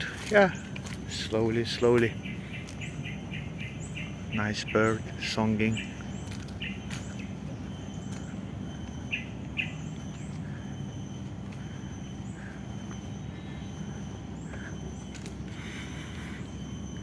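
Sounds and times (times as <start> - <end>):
birds chirping and whistling: 0.0 - 17.0.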